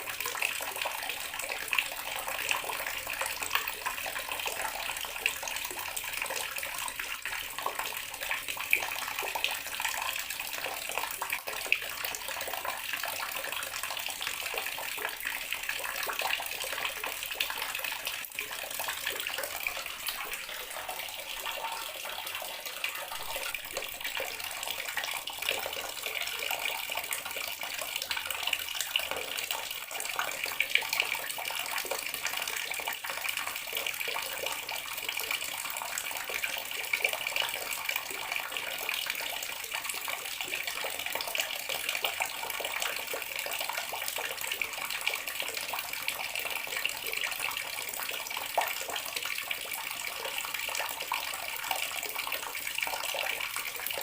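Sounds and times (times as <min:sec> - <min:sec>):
water tap running into basin: 0:00.0 - 0:54.0.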